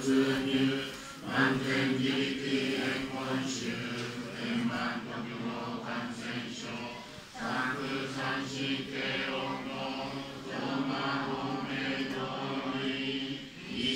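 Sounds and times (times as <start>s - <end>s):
monotone chanting: 0.0s - 13.9s.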